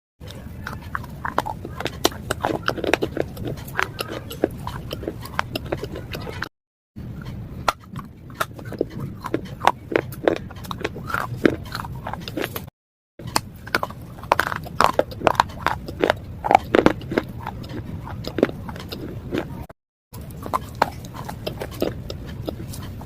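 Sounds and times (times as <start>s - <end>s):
slate crunching when chewed: 0.2s - 6.5s, 7.2s - 23.0s.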